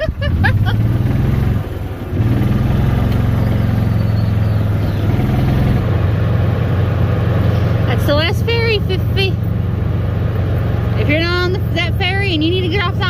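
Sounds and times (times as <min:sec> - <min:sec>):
golf cart engine running: 0:00.0 - 0:13.0.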